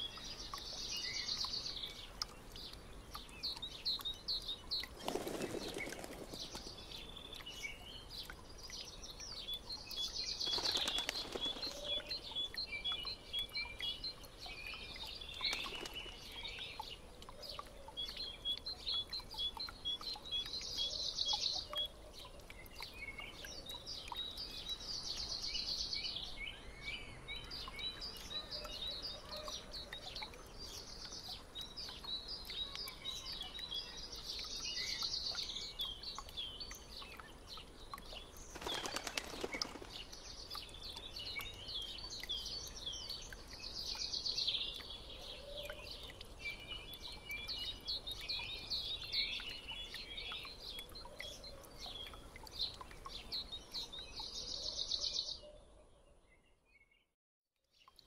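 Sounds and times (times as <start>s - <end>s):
songbirds chirping and trilling: 0.0s - 57.1s.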